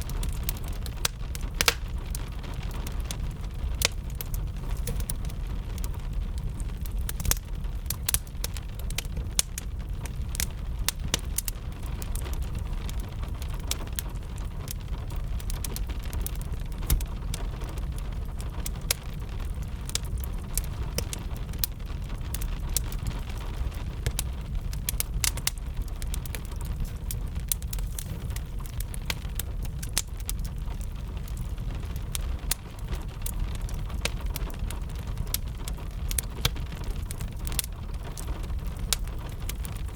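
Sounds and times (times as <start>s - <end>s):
gentle rain pattering: 0.0s - 39.9s
wood fire crackling and popping: 0.0s - 39.9s.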